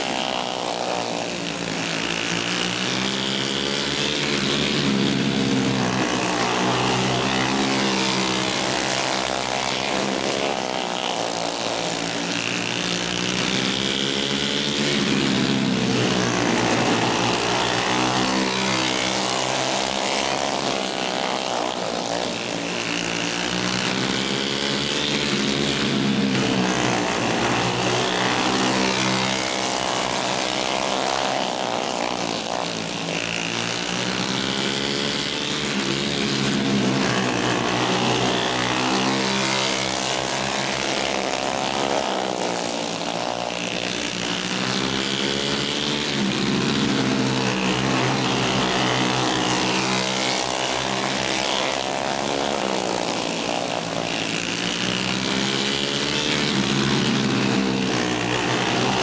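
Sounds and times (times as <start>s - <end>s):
racing kart engines revving: 0.0s - 59.0s.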